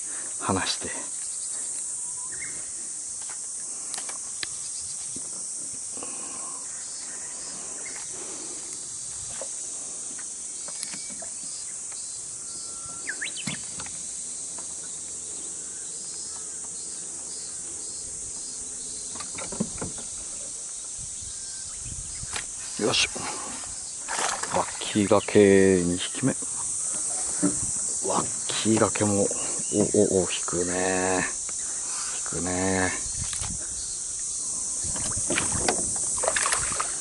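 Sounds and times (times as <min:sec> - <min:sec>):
chorus of insects: 0:00.0 - 0:37.0.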